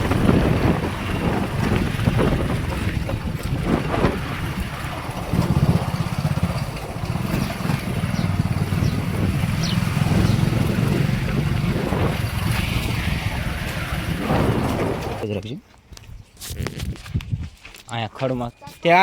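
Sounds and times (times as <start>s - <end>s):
vehicle engine rumbling: 0.0s - 15.3s.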